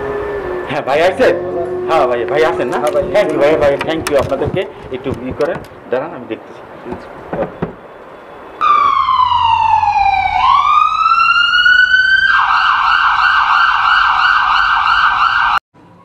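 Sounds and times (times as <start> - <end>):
ambulance siren wailing: 0.0 - 4.6, 7.7 - 16.0.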